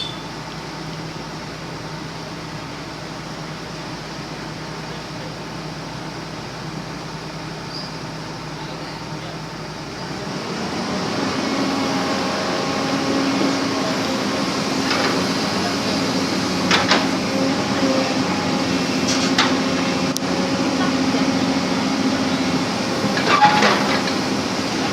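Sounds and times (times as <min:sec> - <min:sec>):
backhoe diesel engine running: 0:00.0 - 0:24.9.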